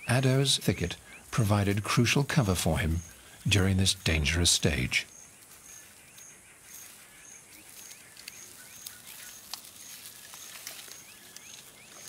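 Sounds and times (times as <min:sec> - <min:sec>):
insect chirping rhythmically: 0:00.0 - 0:12.0.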